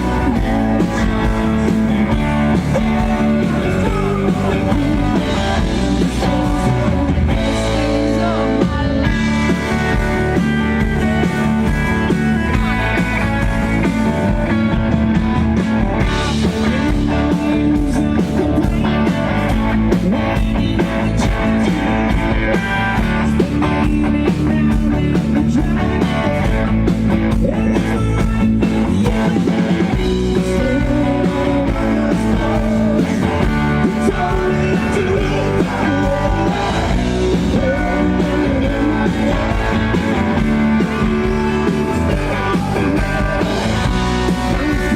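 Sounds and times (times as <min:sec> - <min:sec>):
electric guitar: 0:00.0 - 0:44.9
rock band playing: 0:00.0 - 0:44.9.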